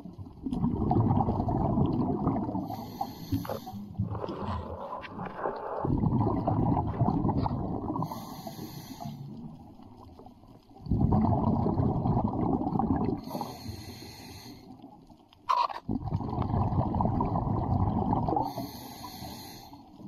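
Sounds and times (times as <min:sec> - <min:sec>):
muffled underwater bubbling rumble: 0:00.0 - 0:20.0.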